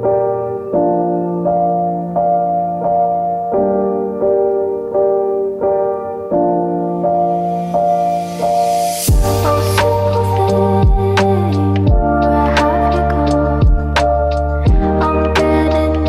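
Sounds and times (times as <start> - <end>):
slow soft piano chords: 0.0 - 16.0.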